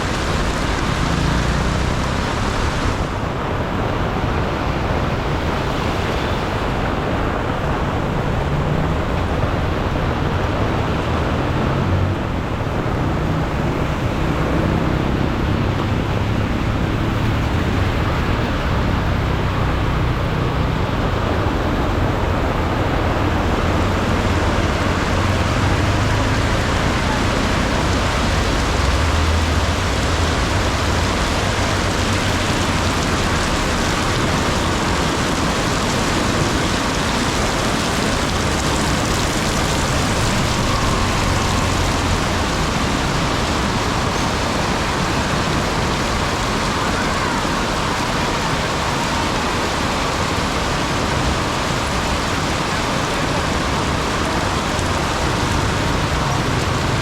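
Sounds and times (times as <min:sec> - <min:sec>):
heavy rain pouring: 0:00.0 - 0:57.0
road traffic: 0:00.0 - 0:57.0.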